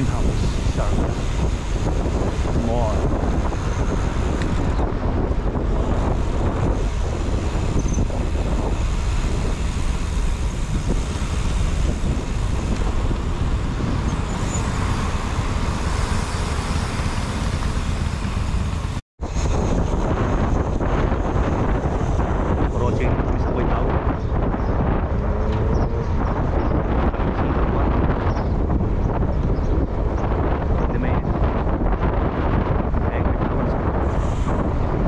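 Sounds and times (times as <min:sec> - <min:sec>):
road and traffic noise: 0:00.0 - 0:35.0
wind buffeting microphone: 0:00.0 - 0:35.0.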